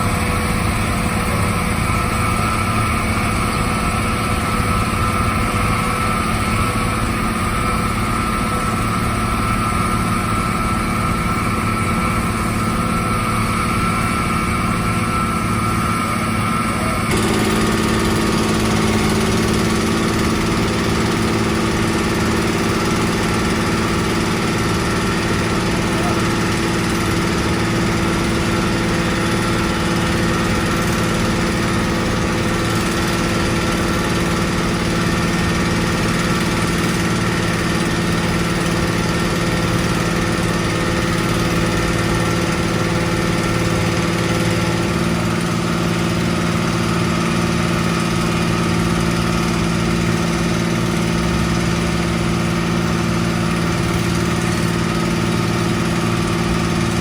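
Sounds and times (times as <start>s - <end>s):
construction machine engine running: 0.0s - 57.0s.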